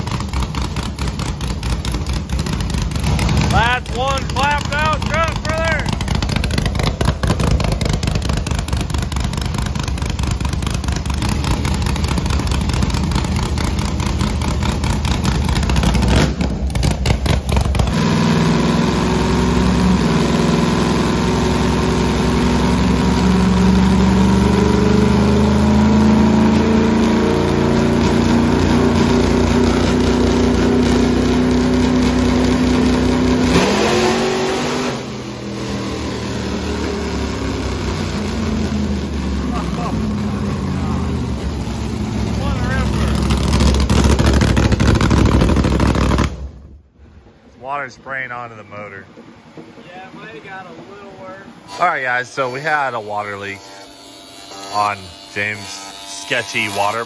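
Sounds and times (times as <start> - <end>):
truck engine revving under load: 0.0 - 47.5.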